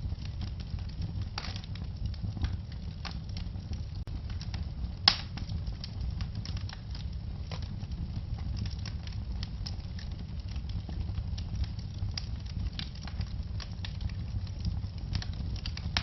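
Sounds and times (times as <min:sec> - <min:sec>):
fire popping: 0:00.0 - 0:16.0
low rumble of flames: 0:00.0 - 0:16.0
wood fire crackling: 0:00.0 - 0:16.0.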